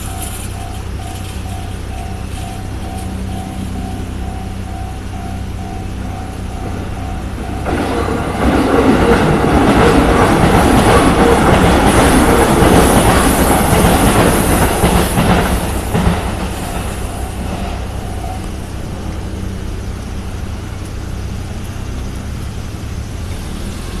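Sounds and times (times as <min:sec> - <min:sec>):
level crossing warning bell: 0:00.0 - 0:20.6
train passing clattering: 0:00.0 - 0:24.0.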